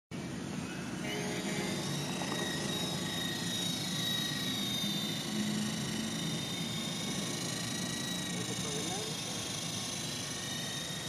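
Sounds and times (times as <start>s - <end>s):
electric motor high whine: 0.2s - 11.0s
helicopter rotor noise: 0.2s - 11.0s.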